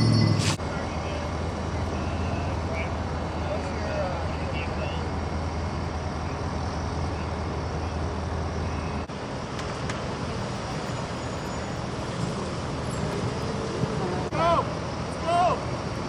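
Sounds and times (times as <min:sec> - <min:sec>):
heavy road traffic hum: 0:00.0 - 0:16.0.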